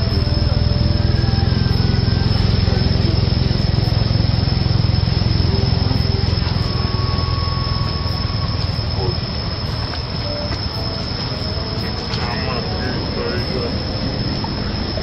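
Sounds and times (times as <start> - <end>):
small engine low rumble: 0.0 - 15.0.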